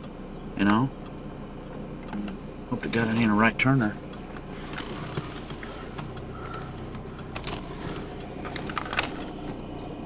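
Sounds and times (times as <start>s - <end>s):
idling vehicle hum: 0.0s - 10.0s.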